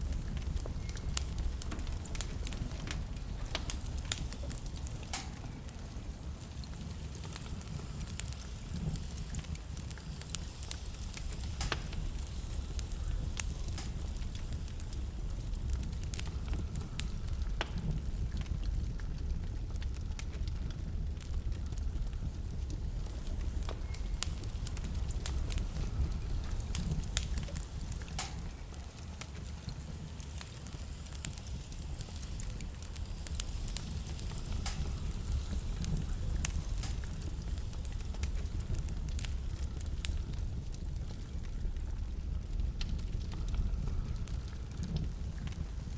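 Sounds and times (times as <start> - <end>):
logs crackling and popping: 0.0 - 45.9
low rumble of flame: 0.0 - 45.9.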